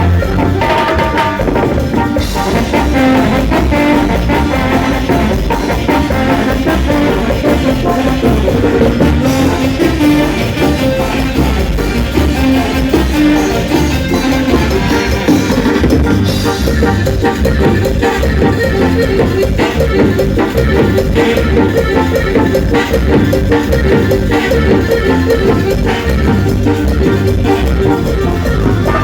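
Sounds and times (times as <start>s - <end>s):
latin dance music: 0.0s - 29.0s.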